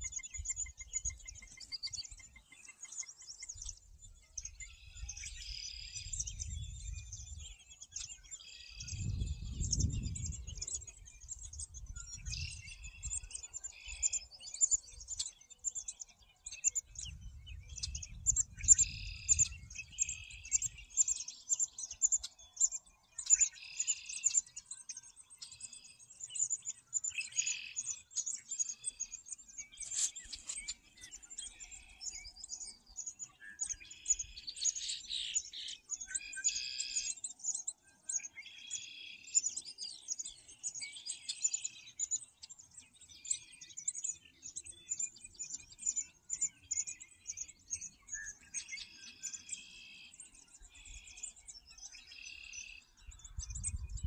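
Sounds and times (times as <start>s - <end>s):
songbirds singing and calling: 0.0s - 54.0s.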